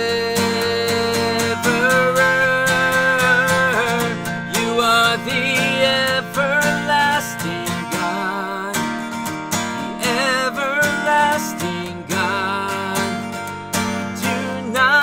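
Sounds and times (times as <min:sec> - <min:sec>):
person singing with vibrato: 0:00.0 - 0:15.0
strummed acoustic guitar: 0:00.0 - 0:15.0.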